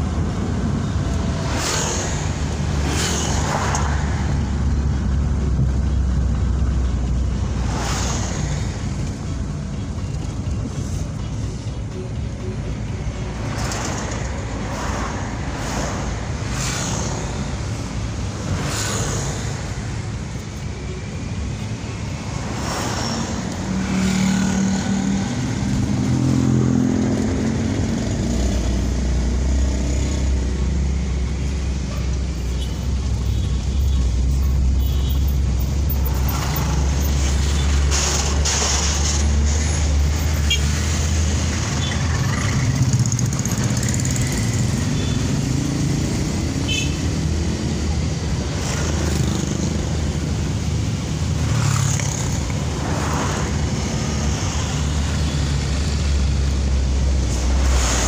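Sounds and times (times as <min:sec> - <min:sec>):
road and traffic rumble: 0:00.0 - 0:58.0.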